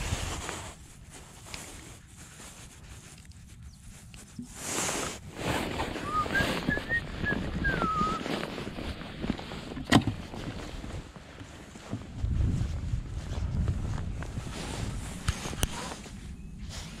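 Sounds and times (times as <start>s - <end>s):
jacket rustling: 0.0s - 17.0s.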